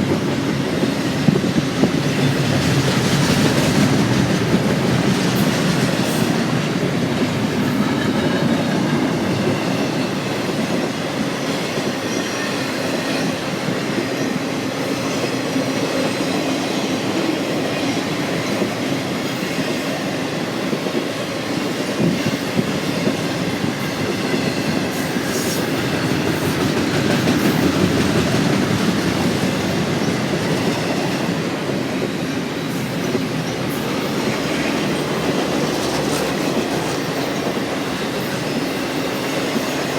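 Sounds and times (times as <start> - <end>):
clickety-clack of rail joints: 0.0 - 39.9
freight train cars rumbling past: 0.0 - 39.9.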